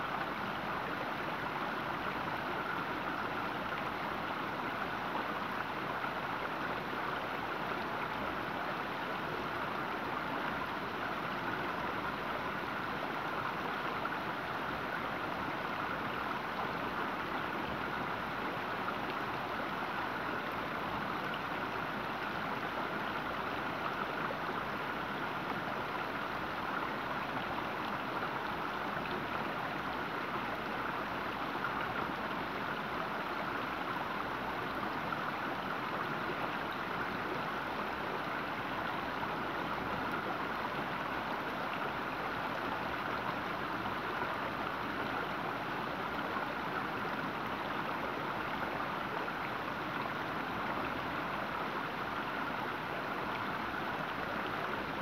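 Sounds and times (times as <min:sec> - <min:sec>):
creek babbling over stones: 0:00.0 - 0:55.0.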